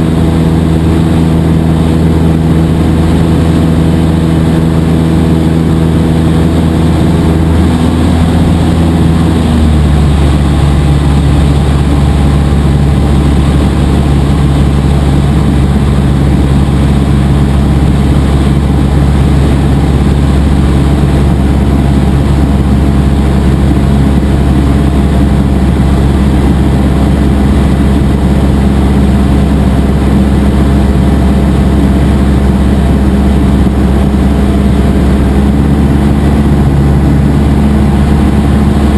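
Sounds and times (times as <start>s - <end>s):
airplane piston engine and propeller: 0.0s - 38.9s.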